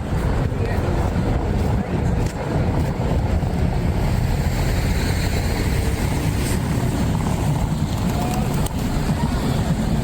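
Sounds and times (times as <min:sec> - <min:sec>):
city street rumble: 0:00.0 - 0:10.0.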